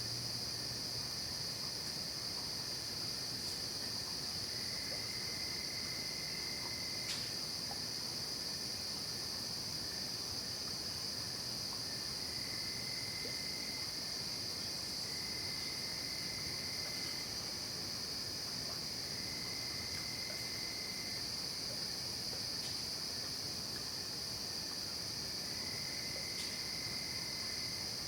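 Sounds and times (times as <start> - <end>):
crickets trilling: 0.0 - 28.0
lower-pitched insect trill: 0.0 - 28.0.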